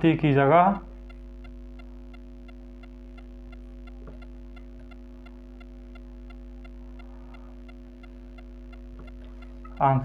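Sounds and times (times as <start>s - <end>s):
electrical hum: 0.0s - 10.0s
faint regular ticking: 0.0s - 10.0s.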